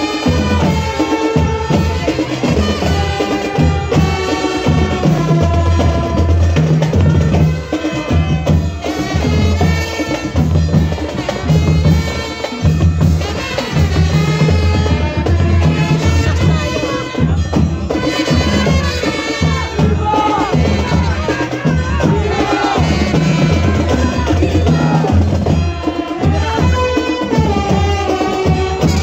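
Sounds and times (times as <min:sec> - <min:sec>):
brass band playing: 0:00.0 - 0:29.0
drum strokes: 0:00.0 - 0:29.0.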